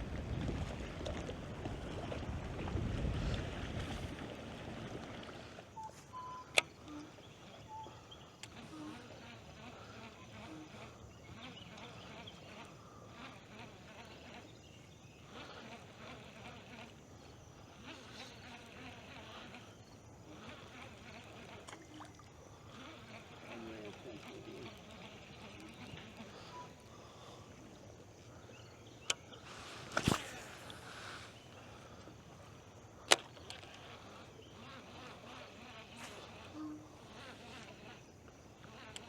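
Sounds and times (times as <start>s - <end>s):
faint insect buzzing: 0.4s - 39.0s.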